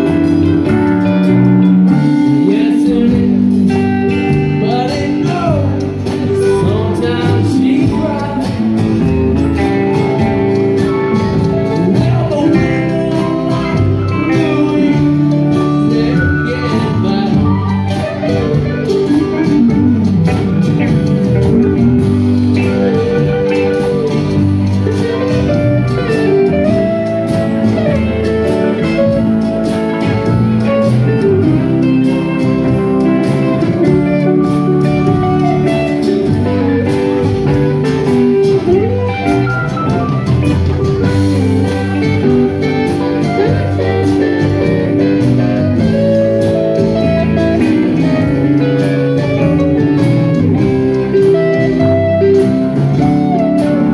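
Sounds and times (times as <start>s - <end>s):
acoustic guitar: 0.0s - 53.9s
band playing blues-rock: 0.0s - 53.9s
drums: 0.0s - 53.9s
electric guitar: 0.0s - 53.9s.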